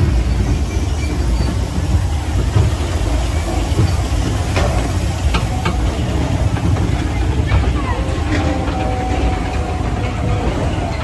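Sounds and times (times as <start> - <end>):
roller coaster rumbling: 0.0 - 11.0.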